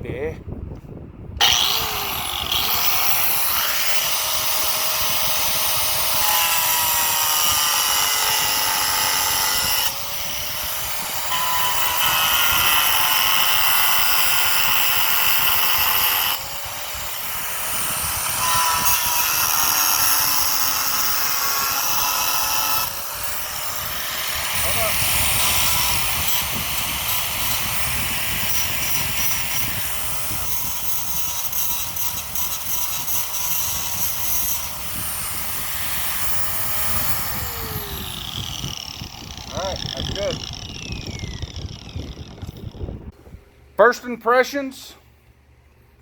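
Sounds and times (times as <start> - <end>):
angle grinder cutting metal: 1.4 - 43.1.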